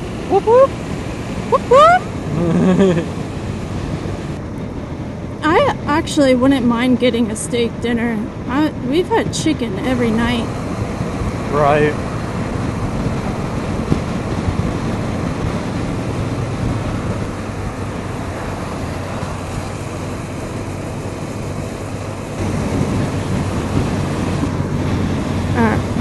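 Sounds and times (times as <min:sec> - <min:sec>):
low hum: 0:00.0 - 0:26.0
vehicle road and wind noise: 0:00.0 - 0:26.0.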